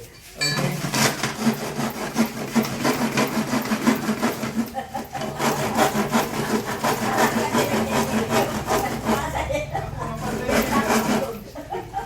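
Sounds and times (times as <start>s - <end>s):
hand saw cutting plywood: 0.7s - 9.5s, 10.1s - 11.4s.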